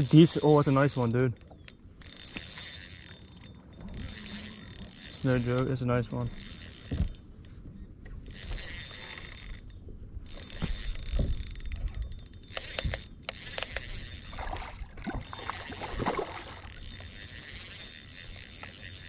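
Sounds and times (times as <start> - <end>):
fishing reel whirring and clicking: 0.0 - 19.0.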